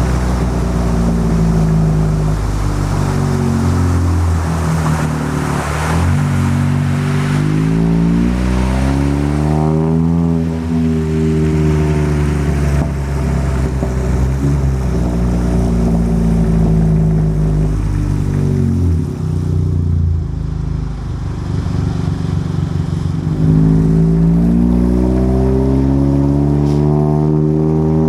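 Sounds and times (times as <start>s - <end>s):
car engine revving under load: 0.0s - 28.0s.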